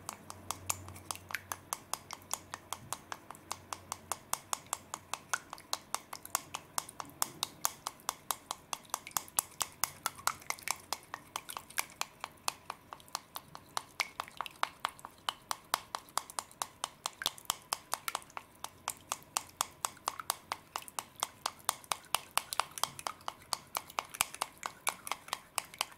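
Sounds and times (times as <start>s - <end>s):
chopsticks clicking in plastic bowl: 0.0s - 25.9s.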